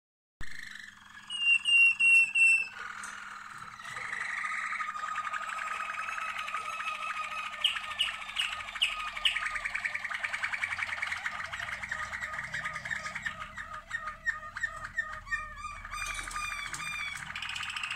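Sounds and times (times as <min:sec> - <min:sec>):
canaries singing: 0:00.5 - 0:17.9.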